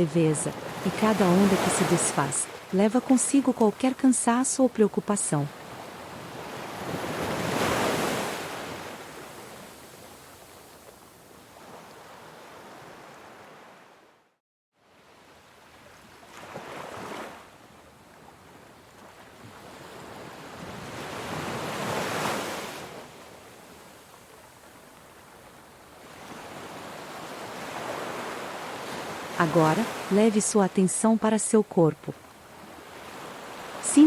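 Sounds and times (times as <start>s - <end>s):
ocean waves breaking on shore: 0.0s - 34.0s.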